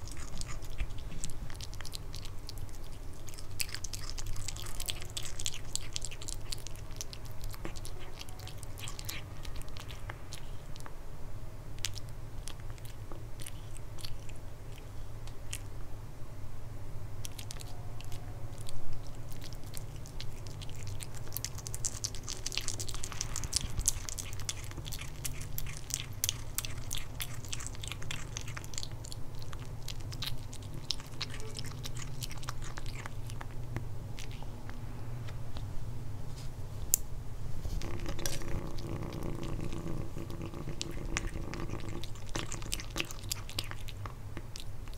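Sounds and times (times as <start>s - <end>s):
kitten chewing meat: 0.0s - 11.0s, 11.7s - 16.1s, 17.1s - 35.8s, 36.6s - 44.9s
low hum: 6.3s - 43.1s.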